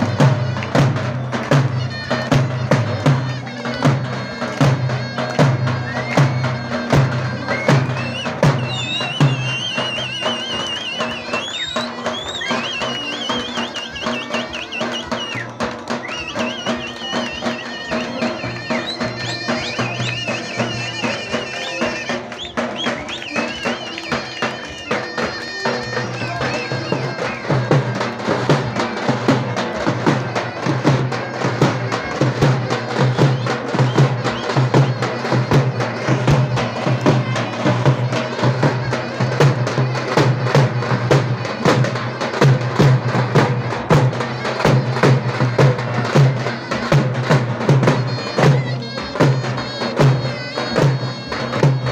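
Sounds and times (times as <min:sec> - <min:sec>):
reedy pipe melody: 0:00.0 - 0:51.9.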